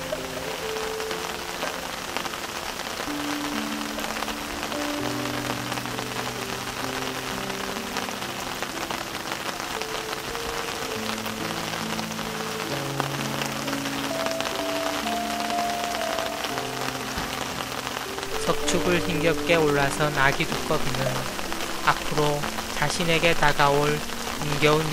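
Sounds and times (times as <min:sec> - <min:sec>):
rain pattering on rocks and leaves: 0:00.0 - 0:24.9
soft background music: 0:00.0 - 0:24.9.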